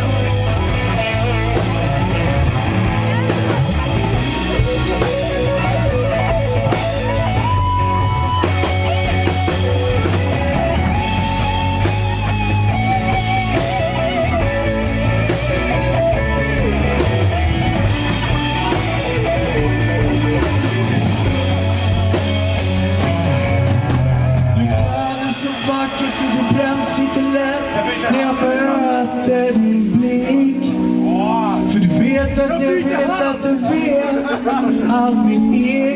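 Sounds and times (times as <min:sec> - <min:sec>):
melodic lead of wavering notes: 0:00.0 - 0:35.9
rock band playing: 0:00.0 - 0:35.9.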